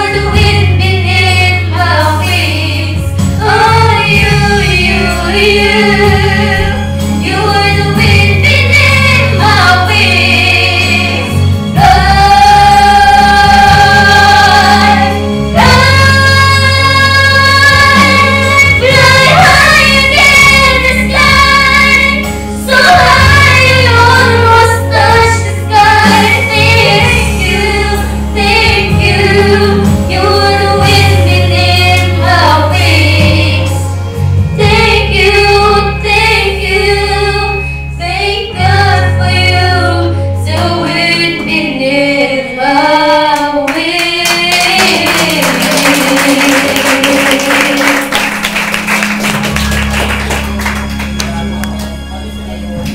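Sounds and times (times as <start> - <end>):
girls singing a duet: 0.0 - 33.9, 34.5 - 48.1
backing track with bass line: 0.0 - 43.2, 43.8 - 52.9.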